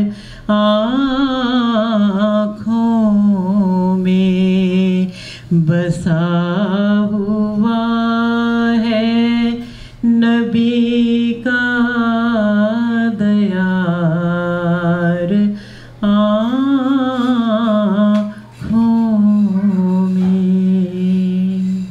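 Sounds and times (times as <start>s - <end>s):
person singing: 0.0s - 21.9s
steady low hum: 0.0s - 21.9s.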